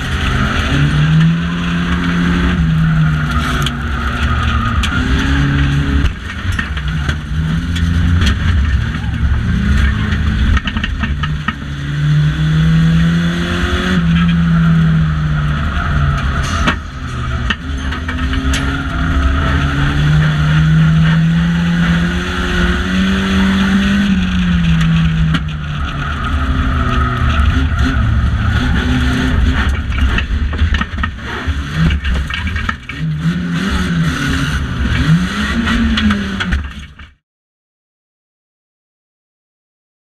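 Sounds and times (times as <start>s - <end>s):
racing car engine: 0.0s - 37.2s.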